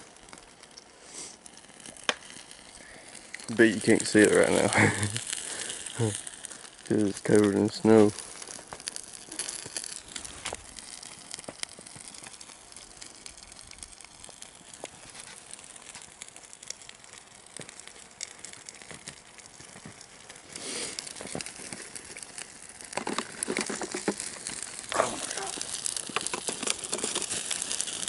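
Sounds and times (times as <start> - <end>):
trash fire crackling and popping: 0.0 - 28.0.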